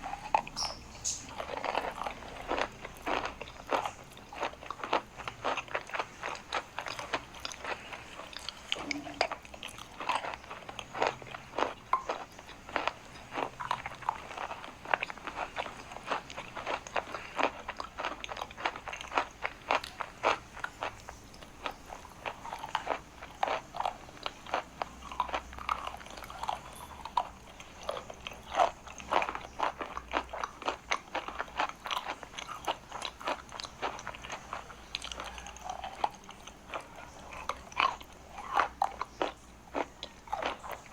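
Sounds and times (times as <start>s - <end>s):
chalk being chewed: 0.0s - 40.9s.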